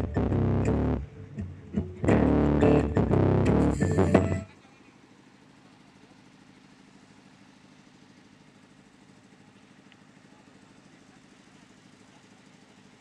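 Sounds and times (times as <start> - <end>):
faint engine-like low hum: 0.0 - 13.0.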